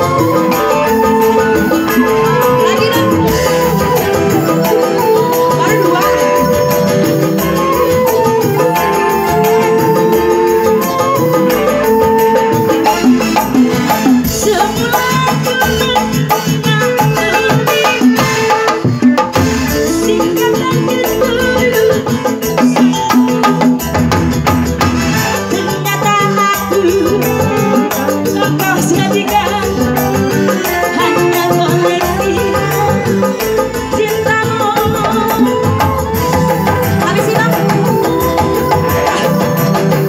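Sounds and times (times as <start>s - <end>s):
woman singing into microphone: 0.0s - 23.4s, 25.3s - 40.0s
live amplified band music: 0.0s - 40.0s.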